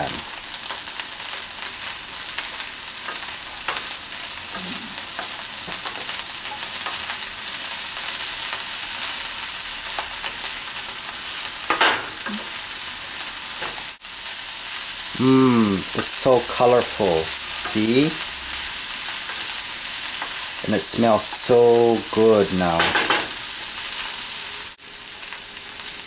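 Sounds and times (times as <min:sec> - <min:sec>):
rice sizzling in a frying pan: 0:00.0 - 0:26.0.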